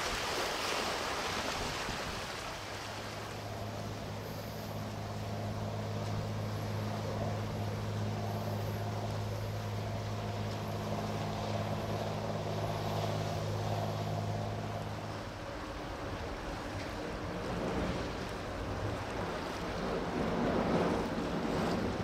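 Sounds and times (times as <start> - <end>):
water wash: 0.0 - 22.0
wind: 0.0 - 22.0
vessel engine drone: 2.8 - 22.0.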